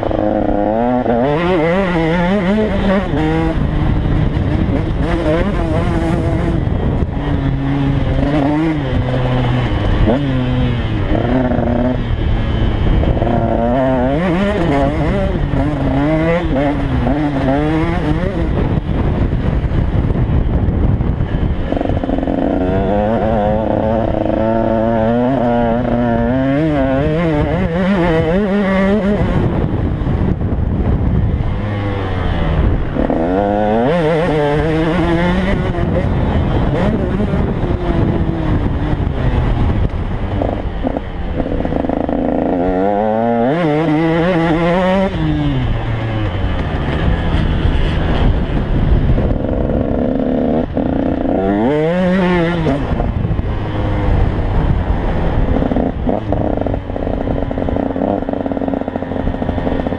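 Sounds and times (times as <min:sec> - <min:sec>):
dirt bike engine revving: 0:00.0 - 0:59.9
wind and track noise: 0:00.0 - 0:59.9.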